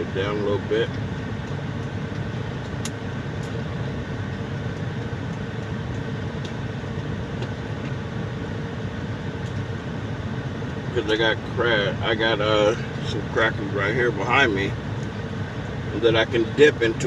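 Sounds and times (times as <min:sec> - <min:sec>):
truck engine drone inside cab: 0:00.0 - 0:17.0.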